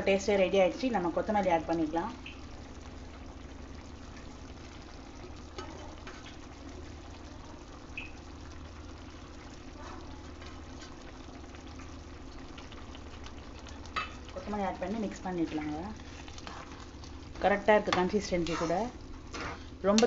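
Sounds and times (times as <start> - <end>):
constant low hum: 0.0 - 20.0
curry bubbling in a pan: 0.0 - 20.0.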